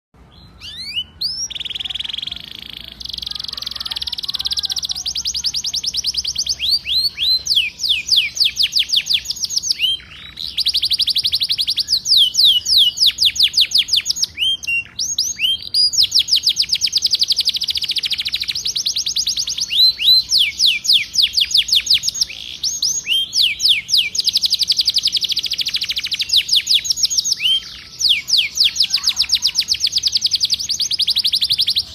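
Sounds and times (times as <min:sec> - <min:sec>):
canary singing trills: 0:00.2 - 0:31.9.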